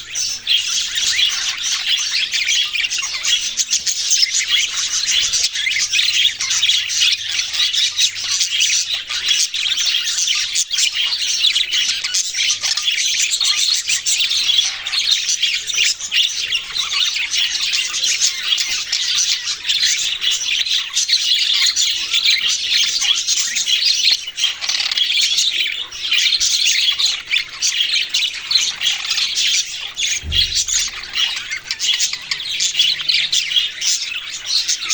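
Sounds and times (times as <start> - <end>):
parrots chattering and squawking: 0.0 - 34.9.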